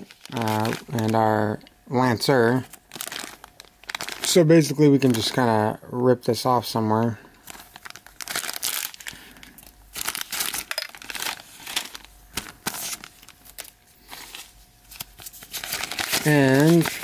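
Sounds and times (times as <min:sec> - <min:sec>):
wrapper ripping open: 0:00.0 - 0:01.5, 0:02.6 - 0:05.4, 0:07.4 - 0:17.0
packaging crinkling and rustling: 0:00.0 - 0:05.6, 0:07.4 - 0:17.0.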